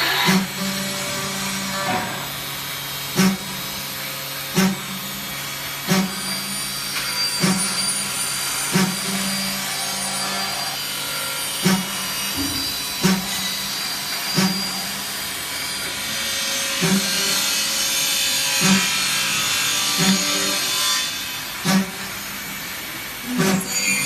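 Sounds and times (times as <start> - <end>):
milling machine cutting metal: 0.0 - 24.0.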